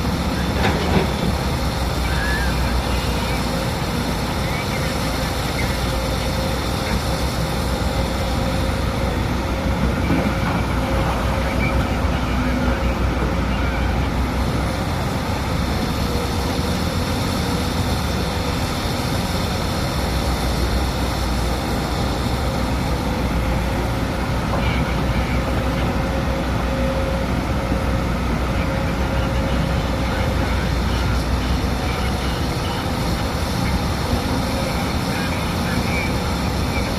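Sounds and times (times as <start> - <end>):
heavy diesel engines running: 0.0 - 36.9.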